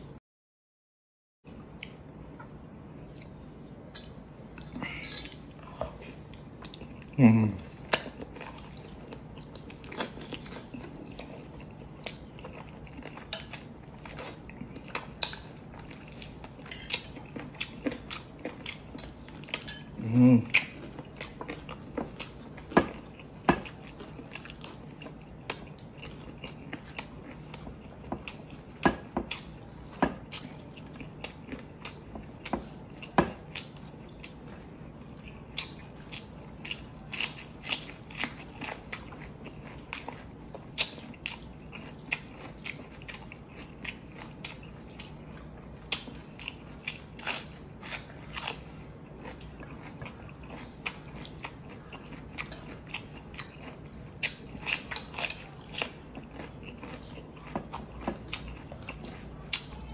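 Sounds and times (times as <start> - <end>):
chewing and crunching cucumber: 1.5 - 59.9
faint low hum: 1.5 - 59.9.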